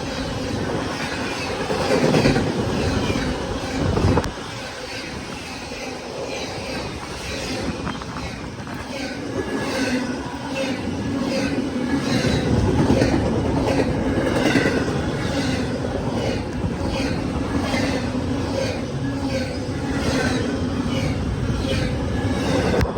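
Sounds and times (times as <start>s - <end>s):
freight train wheels clicking: 0.0s - 22.9s.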